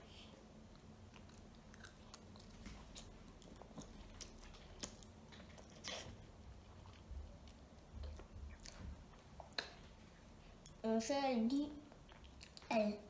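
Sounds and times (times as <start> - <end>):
child chewing and slurping noodles: 0.0 - 10.8, 11.8 - 12.8.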